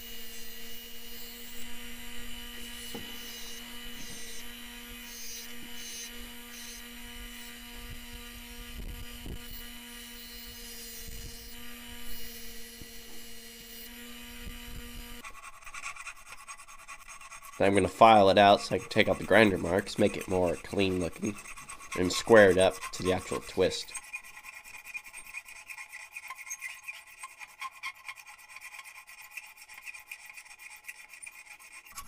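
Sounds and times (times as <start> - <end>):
bench grinder humming: 0.0 - 32.0
steel grinding on wheel: 0.0 - 32.0.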